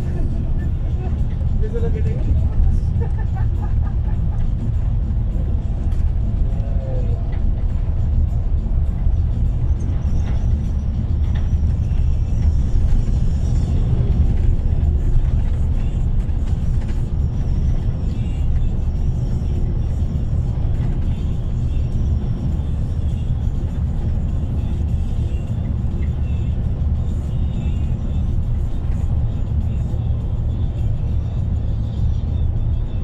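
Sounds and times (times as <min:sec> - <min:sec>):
engine and tyre rumble in cabin: 0:00.0 - 0:33.0.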